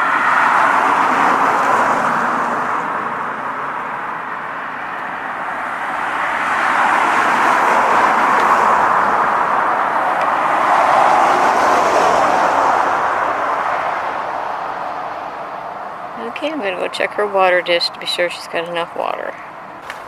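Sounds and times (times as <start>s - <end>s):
passing vehicle rushing: 0.0s - 17.6s.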